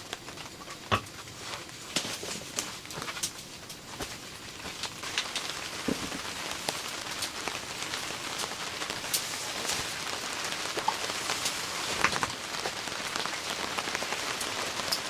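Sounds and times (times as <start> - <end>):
raindrops striking close by: 0.0 - 15.0
rain falling: 1.3 - 15.0.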